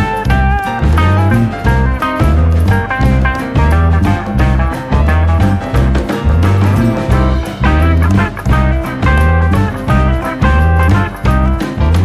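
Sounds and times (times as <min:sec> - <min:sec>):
bass line: 0:00.0 - 0:12.0
guitar-led instrumental music: 0:00.0 - 0:12.0.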